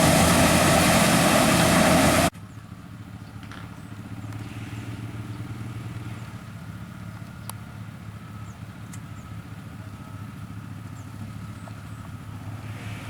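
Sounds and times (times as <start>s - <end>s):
harvester machinery running loudly: 0.0s - 13.0s
quiet engine humming: 0.0s - 13.0s.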